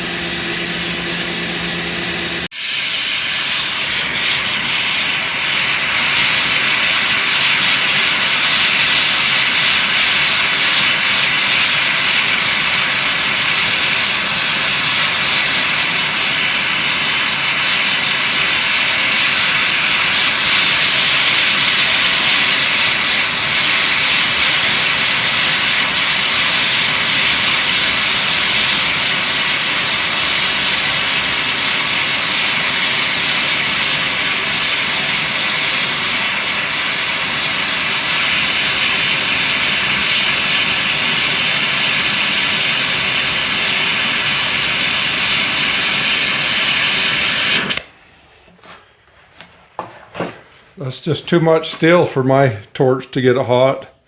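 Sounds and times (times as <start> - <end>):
gas torch flame hissing: 0.0 - 48.7.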